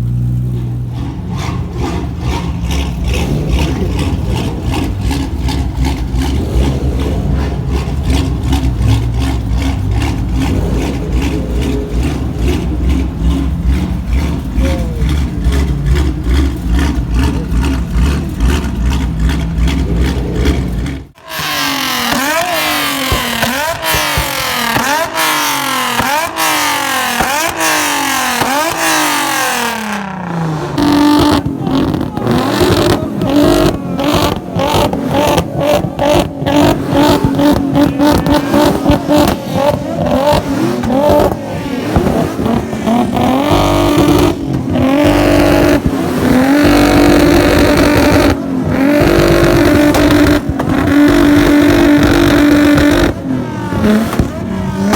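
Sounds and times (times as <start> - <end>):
car engine revving: 0.0 - 54.9
exhaust pops: 0.0 - 54.9.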